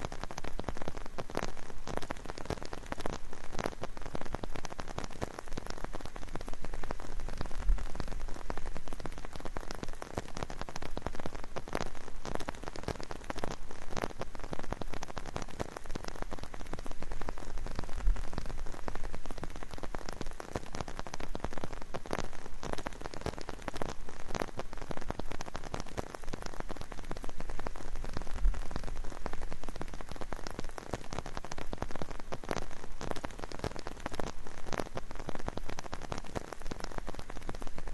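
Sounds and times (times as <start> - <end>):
rain patter: 0.0 - 37.9.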